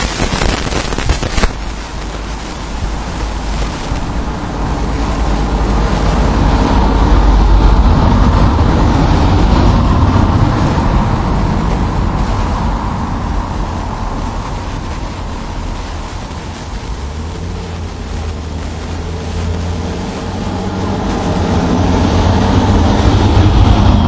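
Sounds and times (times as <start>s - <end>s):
road vehicle passing: 1.5s - 24.0s.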